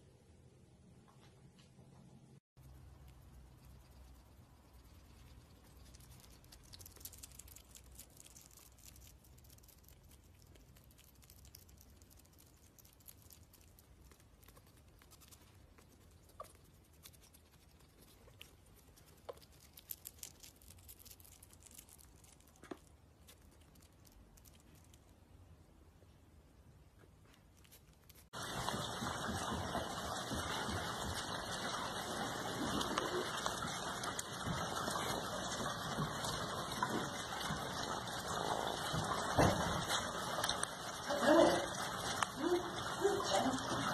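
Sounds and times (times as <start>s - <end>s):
hedgehog chewing wet clicks: 2.6s - 25.3s, 27.6s - 43.9s.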